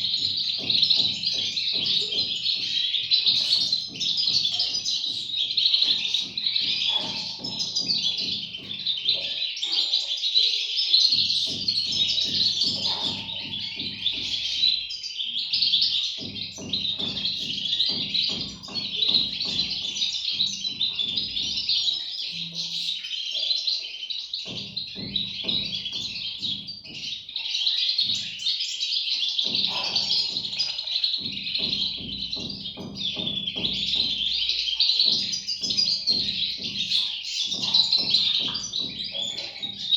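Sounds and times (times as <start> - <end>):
chicks chirping chorus: 0.0 - 39.9.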